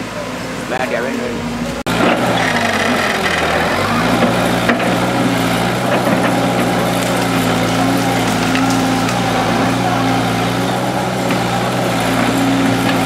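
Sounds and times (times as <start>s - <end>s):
excavator diesel engine revving: 0.2s - 13.0s.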